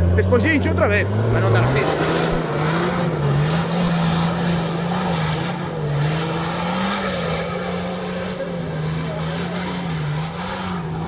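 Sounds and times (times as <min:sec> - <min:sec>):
engine running with steady drone: 0:00.0 - 0:11.0.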